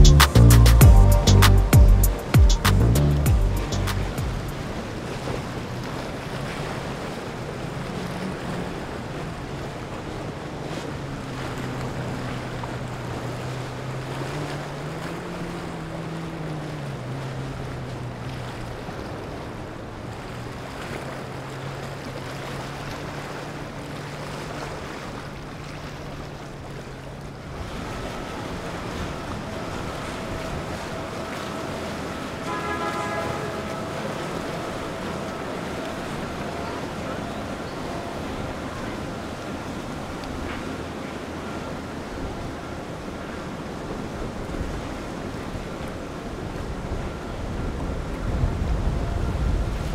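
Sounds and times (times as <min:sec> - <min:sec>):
boat engine drone: 0:00.0 - 0:49.9
higher steady engine tone: 0:00.0 - 0:49.9
wake water rushing: 0:00.0 - 0:49.9
wind: 0:00.0 - 0:49.9.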